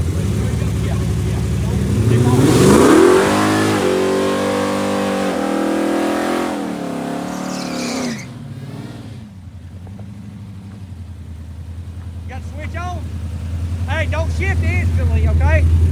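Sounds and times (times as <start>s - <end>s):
drag racing car engine accelerating: 0.0s - 15.9s.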